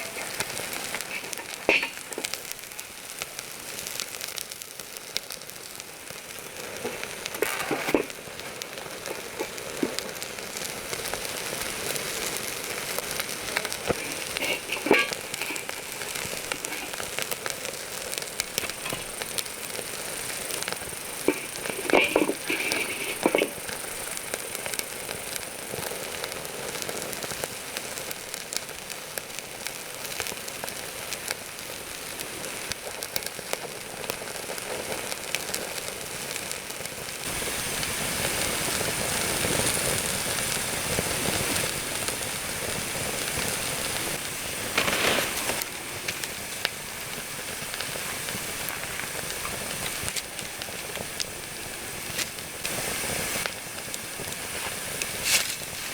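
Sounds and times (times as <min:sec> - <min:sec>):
campfire crackling and popping: 0:00.0 - 0:55.9
fire hissing: 0:00.0 - 0:55.9.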